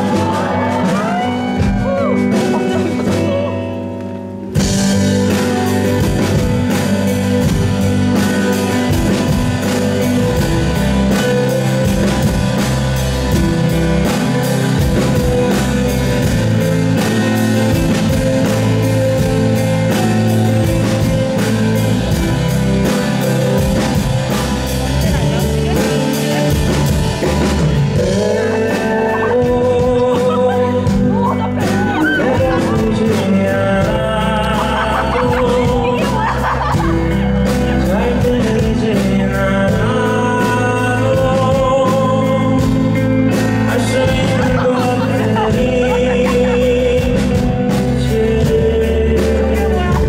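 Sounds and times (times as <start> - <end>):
drums beat: 0.0 - 50.0
live rock band music: 0.0 - 50.0.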